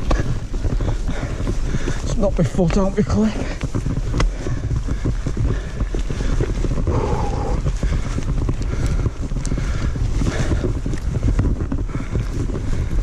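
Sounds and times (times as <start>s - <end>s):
mountain bike rattling on rocks: 0.0s - 13.0s.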